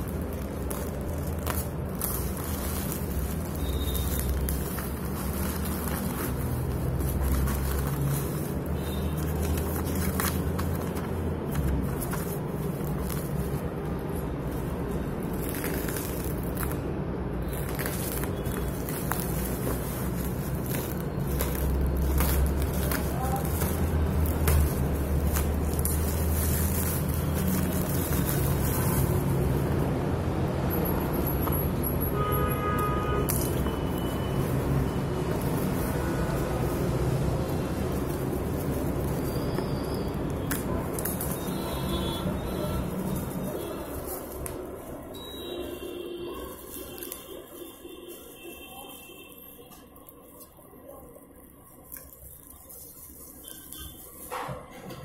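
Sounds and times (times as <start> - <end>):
plastic packaging rustling: 0.0 - 54.7
paper being handled: 0.0 - 55.0
plastic and bubble wrap crinkling: 0.0 - 55.0.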